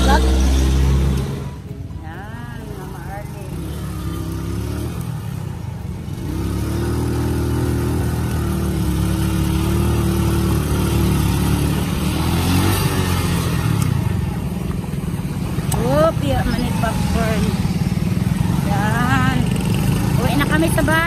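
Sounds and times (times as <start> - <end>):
small motorcycle engine running: 2.4 - 21.0.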